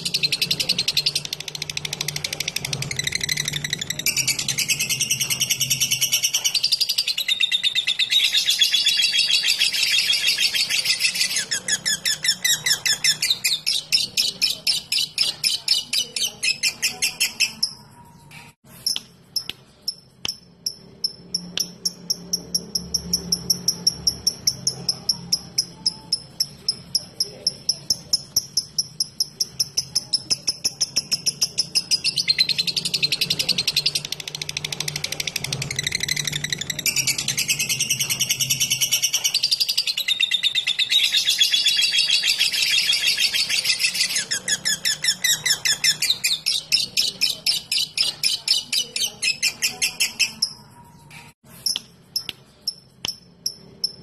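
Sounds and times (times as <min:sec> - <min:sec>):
lovebird chattering trill: 0:00.0 - 0:17.9, 0:18.8 - 0:50.8.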